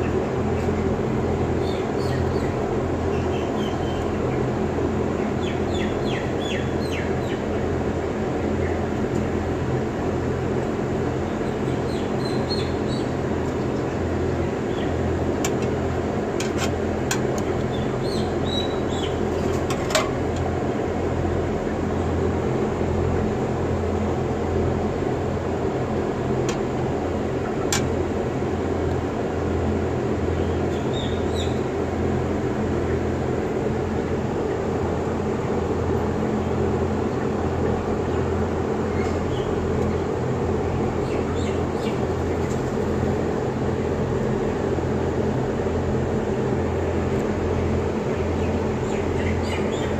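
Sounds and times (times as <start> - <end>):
blower fans droning: 0.0 - 49.9
low electrical hum: 0.0 - 49.9.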